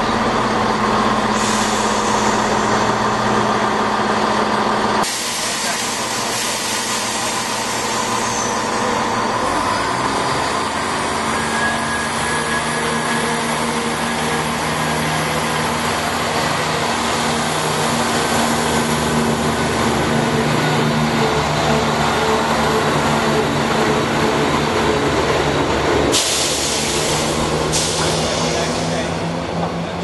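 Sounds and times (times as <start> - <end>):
diesel train engine hum: 0.0 - 30.0
train wheels on rails: 0.0 - 30.0.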